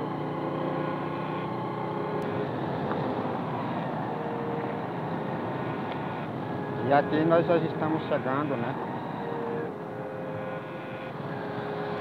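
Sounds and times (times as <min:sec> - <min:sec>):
motorcycle engine cruising: 0:00.0 - 0:12.0
steady rushing noise: 0:02.2 - 0:12.0.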